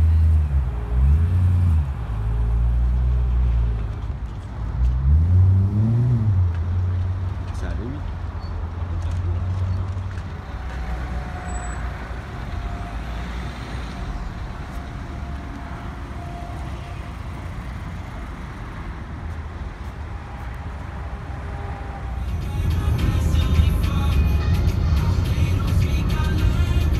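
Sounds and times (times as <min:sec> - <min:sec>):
low rumble of traffic: 0:00.0 - 0:26.9.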